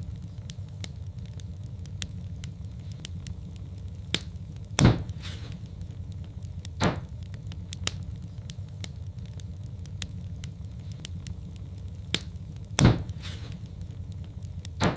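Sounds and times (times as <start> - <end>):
low fire rumble: 0.0 - 14.9
wood fire crackling: 0.0 - 14.9.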